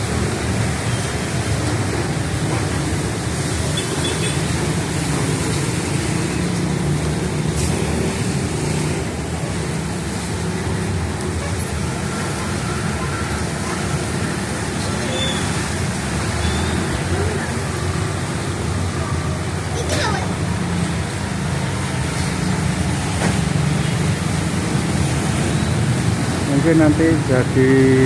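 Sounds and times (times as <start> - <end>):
vehicles passing on wet road: 0.0 - 28.0.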